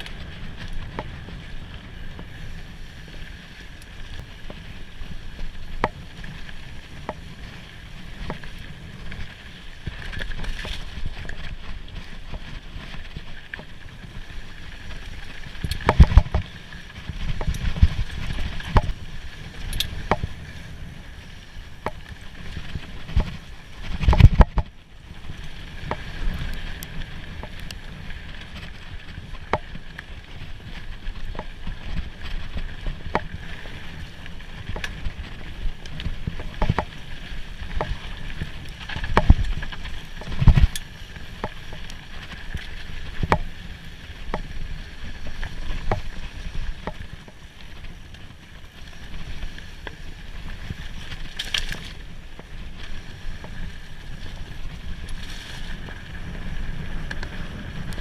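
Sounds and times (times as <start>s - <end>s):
bike rattling: 0.0s - 58.0s
mountain bike rumbling on trail: 0.0s - 58.0s.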